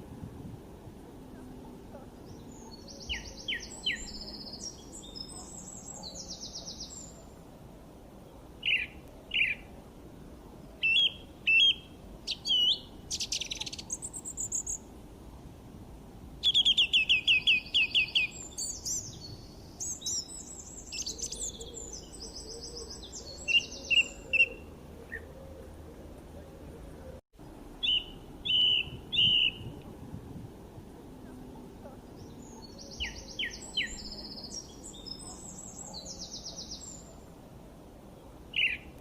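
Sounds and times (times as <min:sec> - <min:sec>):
songbirds singing and chirping: 0:01.2 - 0:15.0, 0:16.4 - 0:39.0.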